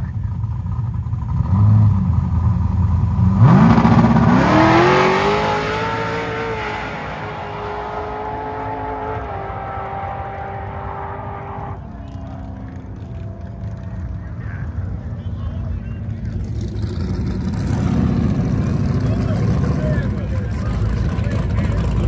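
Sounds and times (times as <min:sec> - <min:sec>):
race car engine revving: 0:01.2 - 0:22.0.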